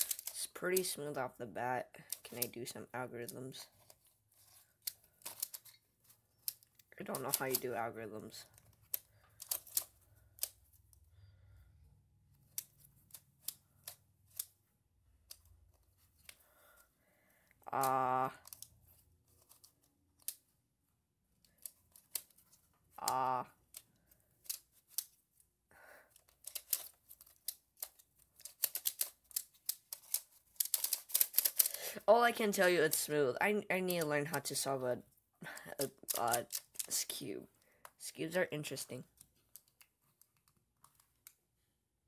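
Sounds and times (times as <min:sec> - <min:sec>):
plastic puzzle clicking: 0:00.0 - 0:01.1, 0:02.0 - 0:11.0, 0:12.3 - 0:16.4, 0:17.5 - 0:20.6, 0:21.3 - 0:25.2, 0:26.1 - 0:33.2, 0:33.8 - 0:34.8, 0:35.4 - 0:37.2, 0:37.8 - 0:41.4.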